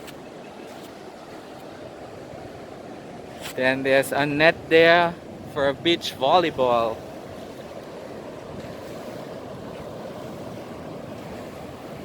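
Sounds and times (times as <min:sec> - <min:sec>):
surf on the beach: 0:00.0 - 0:12.0
wind: 0:00.0 - 0:12.0.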